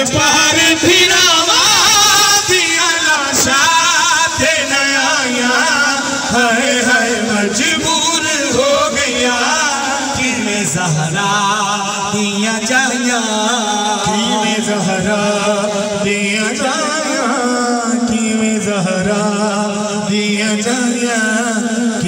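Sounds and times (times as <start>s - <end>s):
man singing a lament: 0.0s - 22.0s.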